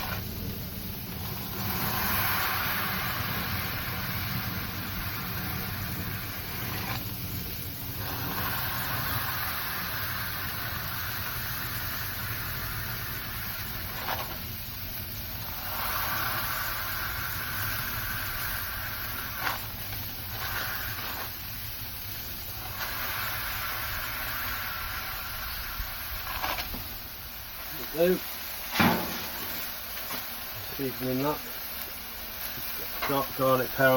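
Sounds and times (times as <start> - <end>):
steady low rumble: 0.0 - 33.0
patties sizzling on a griddle: 0.0 - 33.9.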